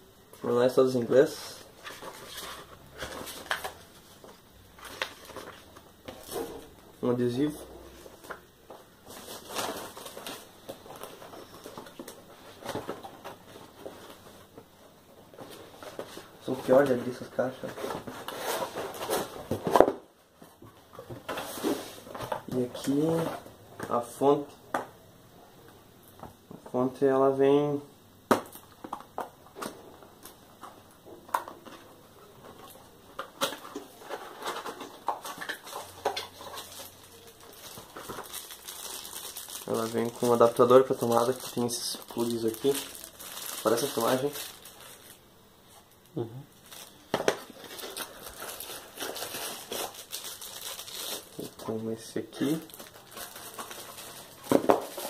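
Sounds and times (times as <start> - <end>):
paper and cardboard rustling: 1.2 - 23.5, 31.5 - 45.8, 46.6 - 55.0.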